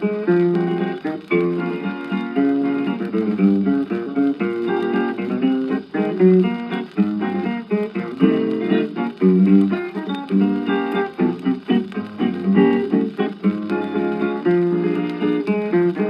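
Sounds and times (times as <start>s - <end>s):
acoustic guitar picking melody: 0.0s - 16.0s.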